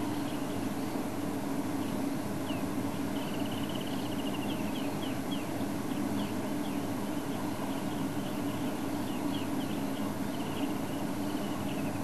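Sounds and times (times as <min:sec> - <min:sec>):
small birds chirping: 0:00.0 - 0:12.0
steady low hum: 0:00.0 - 0:12.0
bird rapid trill: 0:01.8 - 0:12.0.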